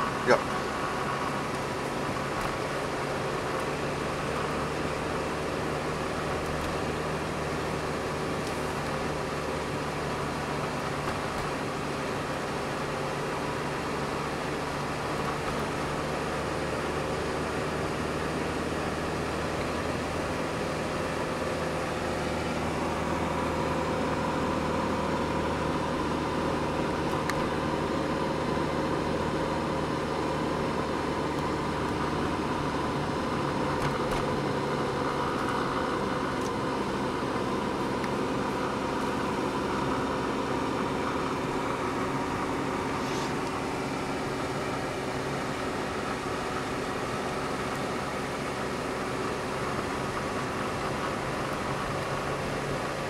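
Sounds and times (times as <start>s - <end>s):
car engine hum and road noise: 0.0s - 53.0s.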